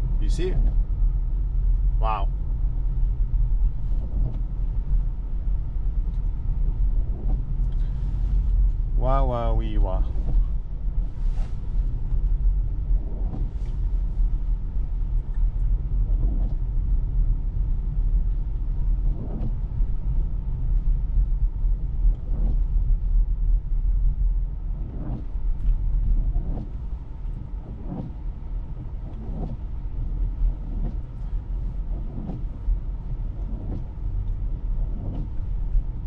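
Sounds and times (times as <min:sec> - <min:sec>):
car road rumble inside cabin: 0:00.0 - 0:36.0.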